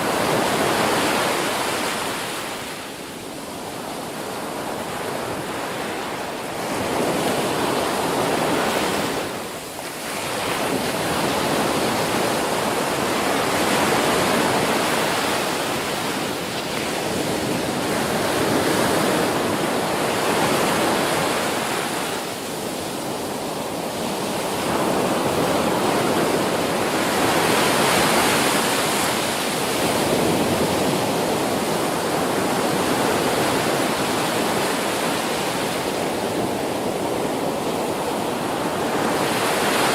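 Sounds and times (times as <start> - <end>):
ocean waves breaking: 3.9 - 39.9.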